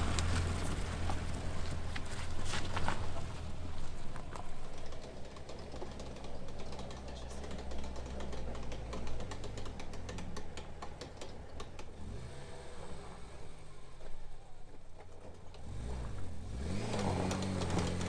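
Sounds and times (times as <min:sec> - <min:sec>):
engine running low: 0:00.0 - 0:18.0.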